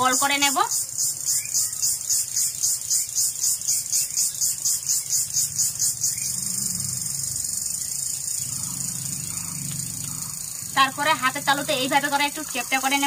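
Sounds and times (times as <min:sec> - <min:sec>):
insects chirping high-pitched: 0:00.0 - 0:13.0.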